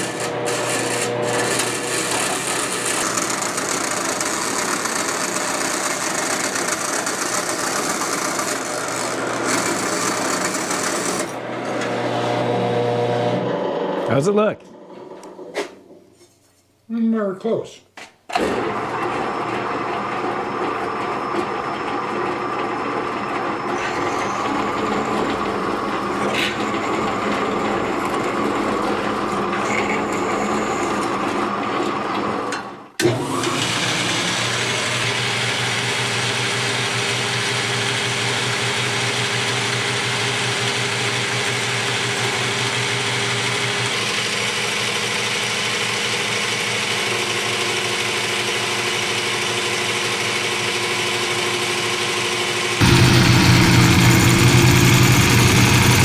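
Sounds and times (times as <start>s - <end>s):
drill press drilling metal: 0.0s - 12.5s, 18.3s - 56.0s
metal lathe running: 0.0s - 13.9s, 19.5s - 32.0s, 33.6s - 56.0s.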